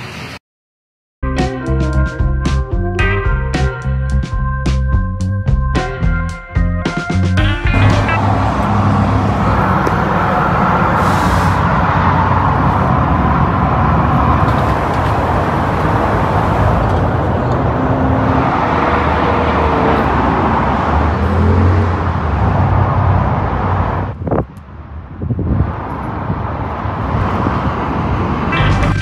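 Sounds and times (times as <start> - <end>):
motor vehicle noise: 1.3 - 29.0.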